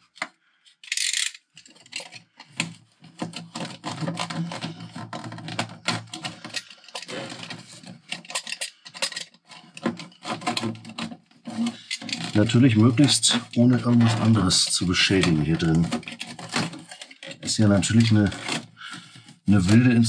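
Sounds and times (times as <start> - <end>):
clicks snips and rattles: 0.0 - 20.0
scraping: 0.8 - 20.0.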